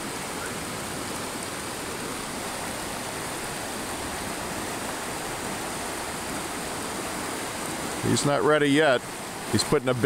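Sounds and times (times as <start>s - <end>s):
river rapids rushing over rocks: 0.0s - 10.0s.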